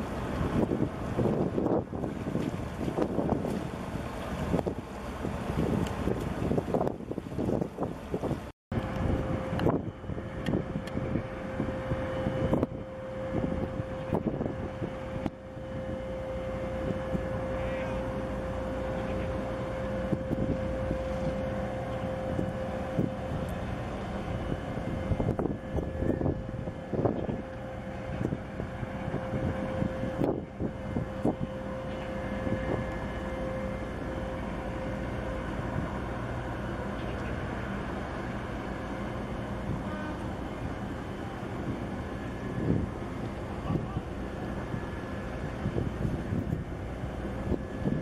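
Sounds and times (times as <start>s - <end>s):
mid-pitched hum: 0.0s - 48.0s.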